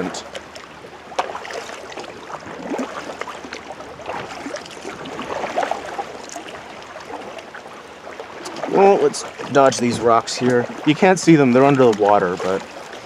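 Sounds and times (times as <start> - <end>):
paddle dipping in water: 0.0 - 13.0
water splashing around kayak: 0.0 - 13.0.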